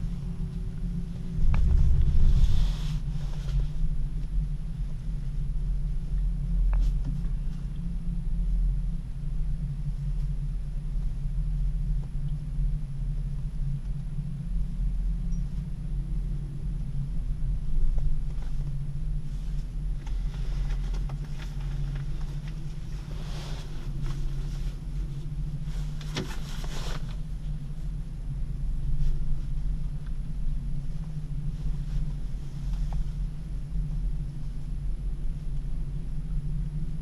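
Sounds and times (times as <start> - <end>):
cable car low rumble: 0.0 - 37.0.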